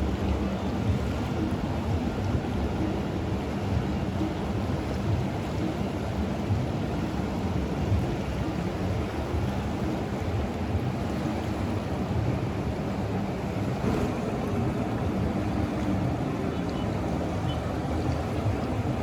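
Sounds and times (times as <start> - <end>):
river water rushing: 0.0 - 19.0
wind buffeting microphone: 0.0 - 19.0.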